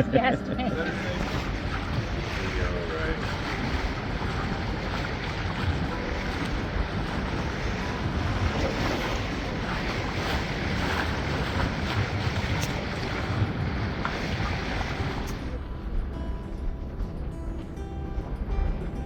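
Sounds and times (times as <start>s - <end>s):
water rushing and waves: 0.0s - 19.0s
wind buffeting microphone: 0.0s - 19.0s.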